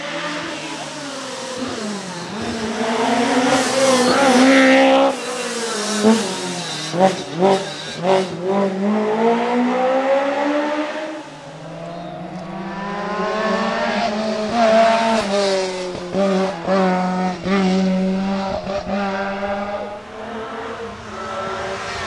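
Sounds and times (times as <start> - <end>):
car engine accelerating and revving: 0.0 - 22.0.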